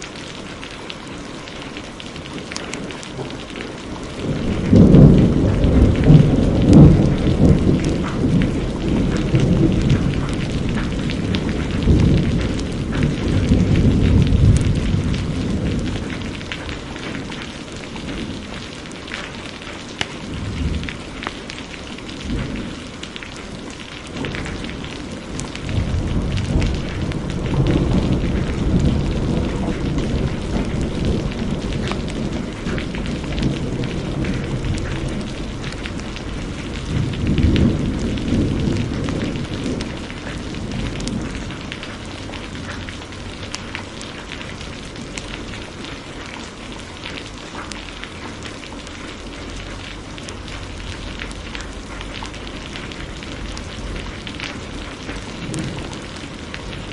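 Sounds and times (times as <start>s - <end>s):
heavy rain: 0.0s - 56.9s
rolling thunder rumble: 2.2s - 56.9s.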